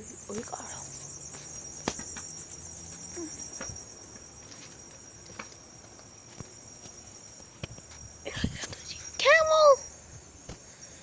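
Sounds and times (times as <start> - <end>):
crickets chirping: 0.0 - 11.0
low hum: 0.0 - 11.0.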